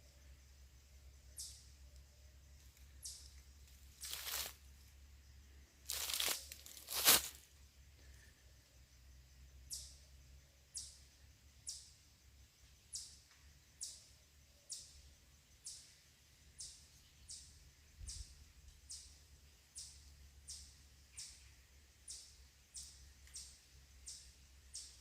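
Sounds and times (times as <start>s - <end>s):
bird chirping: 0.0s - 6.9s, 9.4s - 25.0s.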